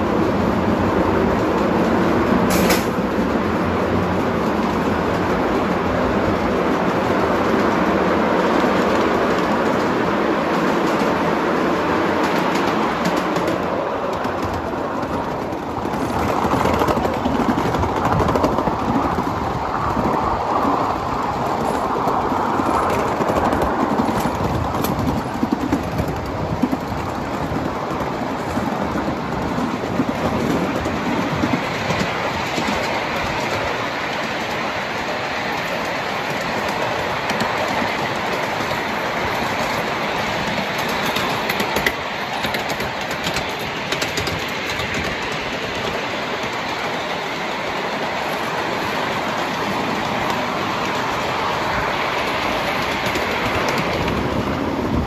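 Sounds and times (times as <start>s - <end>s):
small train wheels clicking on rails: 0.0s - 55.0s.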